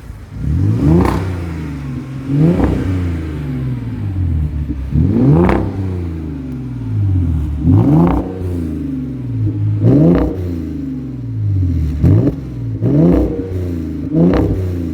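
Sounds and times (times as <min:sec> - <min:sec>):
car engine revving from idle: 0:00.0 - 0:14.9.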